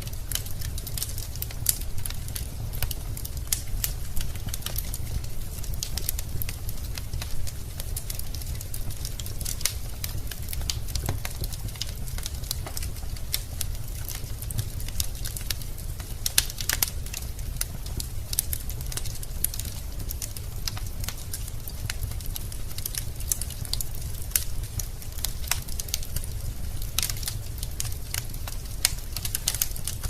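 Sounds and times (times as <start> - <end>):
burning logs crackling and popping: 0.0 - 30.0
low rumble of fire: 0.0 - 30.0.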